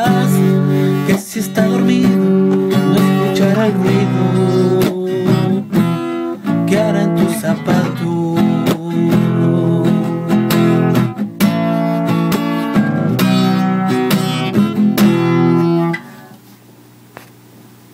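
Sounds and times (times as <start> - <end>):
acoustic guitar strumming chords: 0.0 - 16.4.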